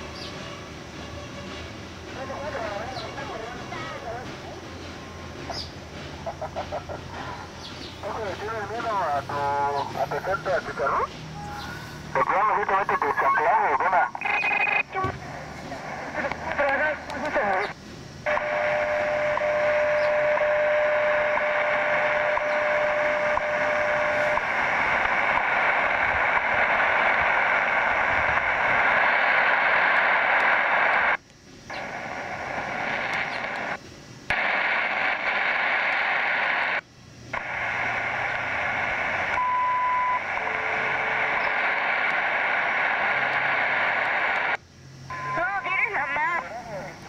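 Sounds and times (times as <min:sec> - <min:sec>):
radio static hiss: 0:00.0 - 0:47.0
held radio tone: 0:08.0 - 0:47.0.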